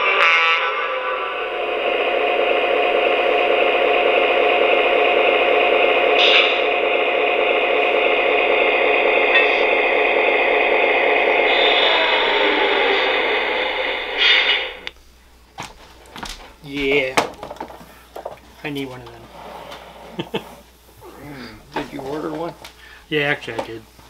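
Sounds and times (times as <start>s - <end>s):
model train diesel engine sound: 0.0s - 15.0s, 16.0s - 24.0s.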